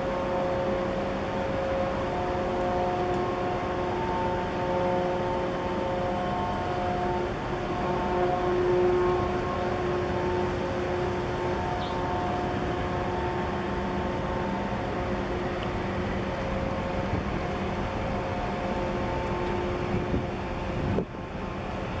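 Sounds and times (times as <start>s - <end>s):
constant rushing noise: 0.0s - 22.0s
ship machinery drone: 0.0s - 22.0s.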